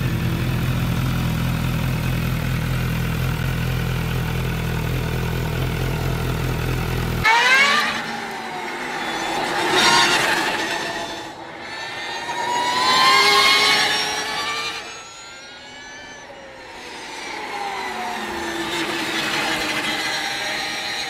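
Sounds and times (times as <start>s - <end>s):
electric motorcycle motor whine: 0.0s - 21.0s.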